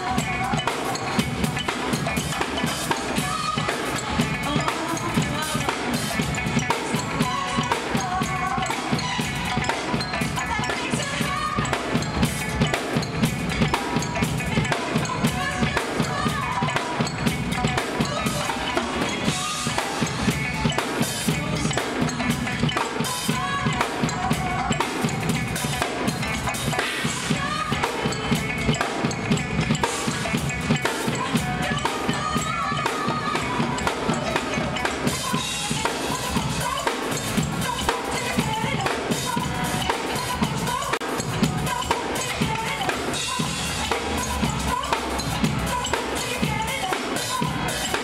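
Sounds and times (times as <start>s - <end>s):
drum kit playing fast: 0.0s - 48.0s.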